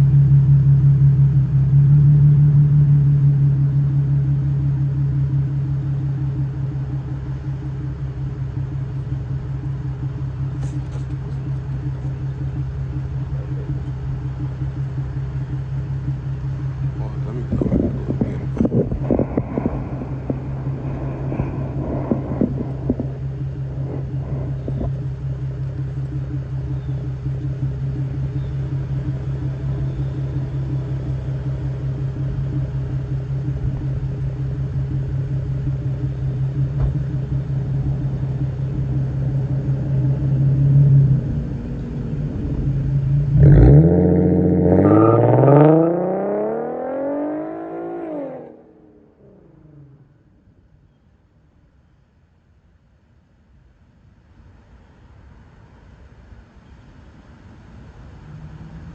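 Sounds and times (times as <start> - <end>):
car engine idling and revving: 0.0 - 52.0, 52.6 - 58.9.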